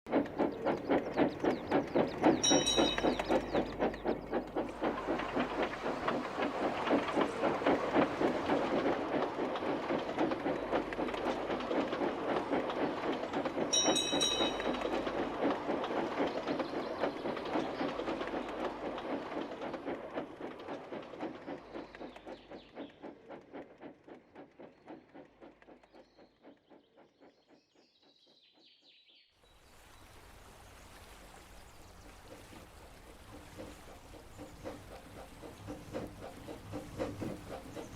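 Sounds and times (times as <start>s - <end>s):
steam locomotive chuffing: 0.1s - 28.3s, 31.0s - 37.9s.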